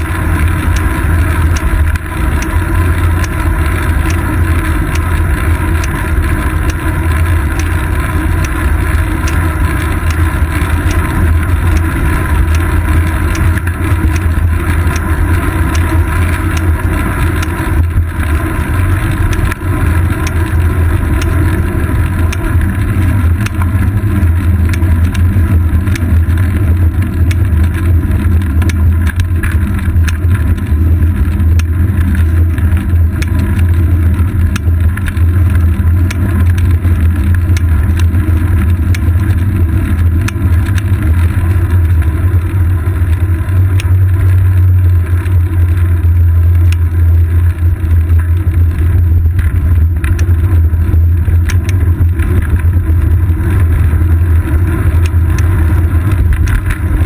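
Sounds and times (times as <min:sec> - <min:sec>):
small clicks from bumps: 0:00.0 - 0:57.0
wind and road rumble: 0:00.0 - 0:57.0.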